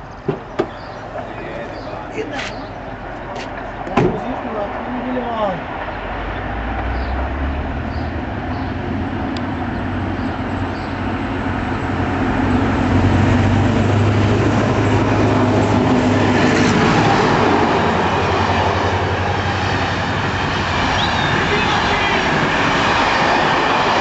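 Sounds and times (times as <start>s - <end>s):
locomotive engine drone: 0.0s - 24.0s
train wheels and coaches rushing: 0.0s - 24.0s.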